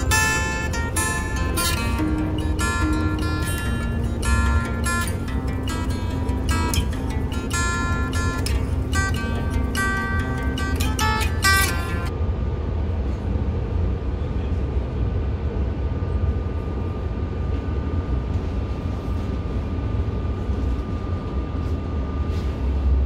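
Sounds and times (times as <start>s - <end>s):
thin constant whine: 0.0s - 23.0s
train low rumble: 0.0s - 23.0s.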